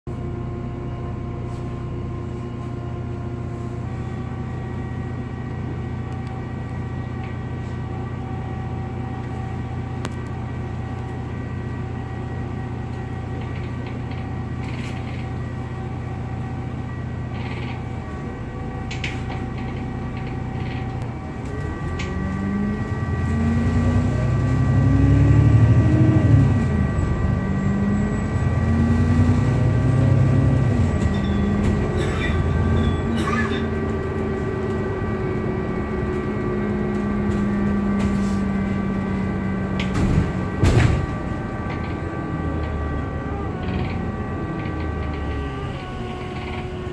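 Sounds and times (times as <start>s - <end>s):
bus diesel engine: 0.0s - 46.9s
steady whining tones: 0.2s - 46.9s.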